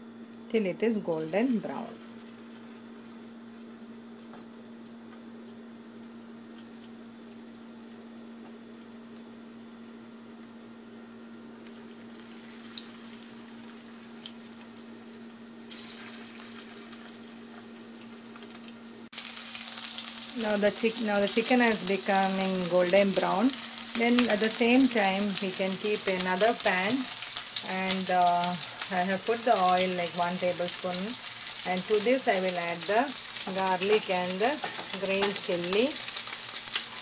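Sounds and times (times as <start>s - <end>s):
chicken sizzling in hot oil: 1.1s - 37.0s.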